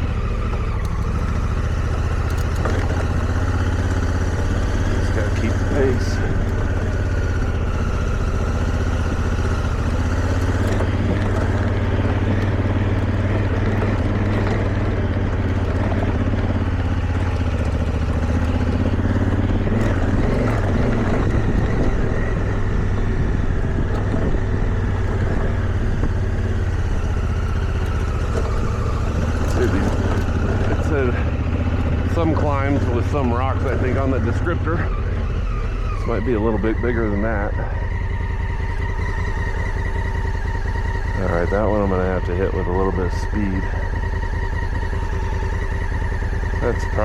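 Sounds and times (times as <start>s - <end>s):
motorcycle engine under load: 0.0s - 47.0s.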